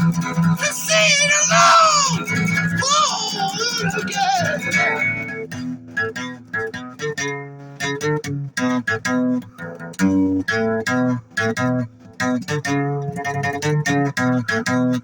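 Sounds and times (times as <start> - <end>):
guitar picking notes and chords: 0.0 - 15.0.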